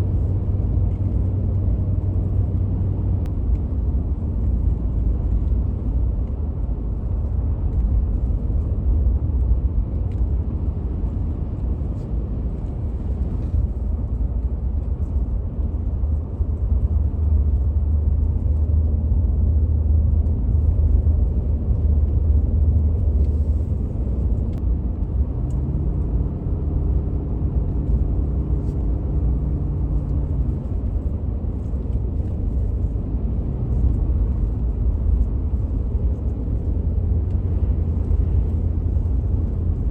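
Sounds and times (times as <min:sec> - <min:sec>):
engine hum: 0:00.0 - 0:39.9
road rumble inside vehicle: 0:00.0 - 0:39.9.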